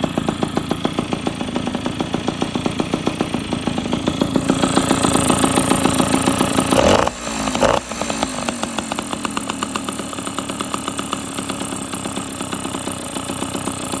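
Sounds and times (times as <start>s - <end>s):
moped engine revving: 0.0s - 14.0s.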